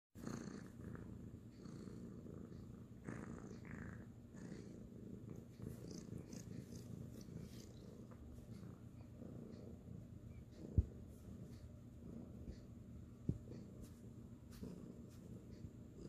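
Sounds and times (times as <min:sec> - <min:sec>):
kitten purring: 0:00.2 - 0:16.0.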